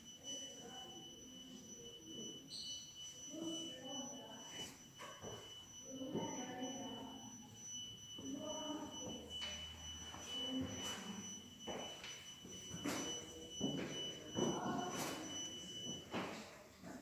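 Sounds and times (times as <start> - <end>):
high-pitched electronic whine: 0.0 - 16.2
distant indoor voices: 0.0 - 17.0.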